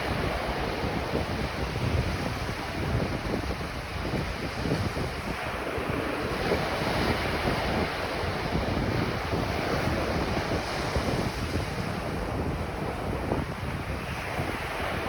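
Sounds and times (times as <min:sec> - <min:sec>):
ocean surf breaking on beach: 0:00.0 - 0:15.0
wind rumbling on the microphone: 0:00.0 - 0:15.0.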